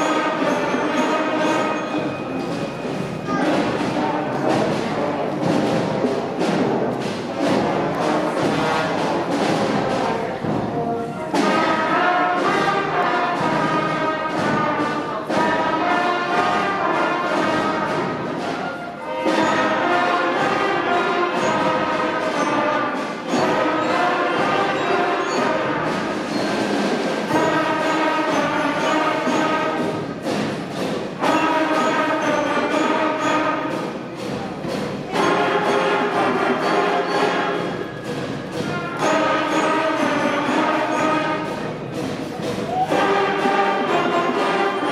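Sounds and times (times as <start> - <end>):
concert band playing: 0.0 - 44.9.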